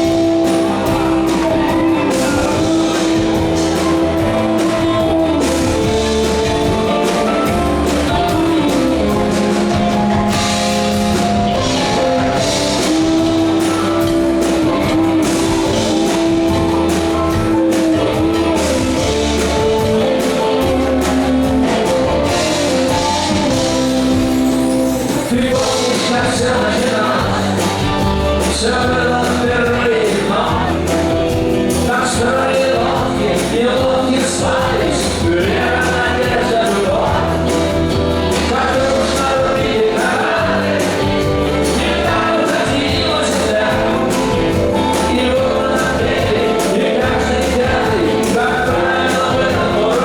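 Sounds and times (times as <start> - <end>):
drum kit: 0.0 - 50.0
electric guitar: 0.0 - 50.0
rock band playing live: 0.0 - 50.0.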